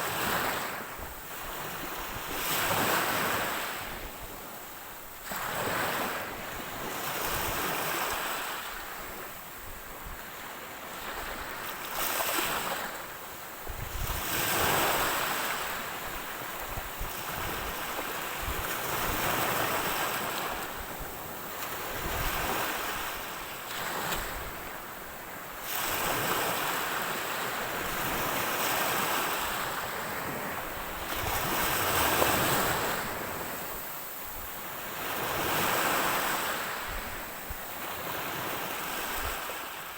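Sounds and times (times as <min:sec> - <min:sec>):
wind on microphone: 0:00.0 - 0:13.0, 0:13.6 - 0:39.9.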